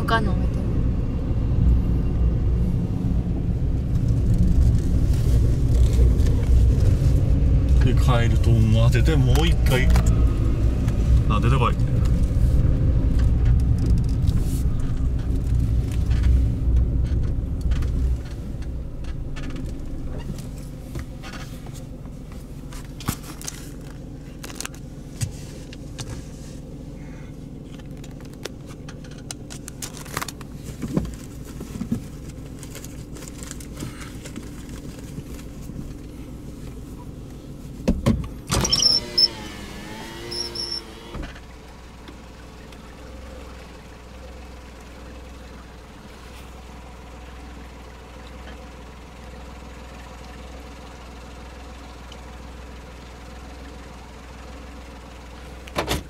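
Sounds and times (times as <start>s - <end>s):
engine and road rumble: 0.0s - 56.0s.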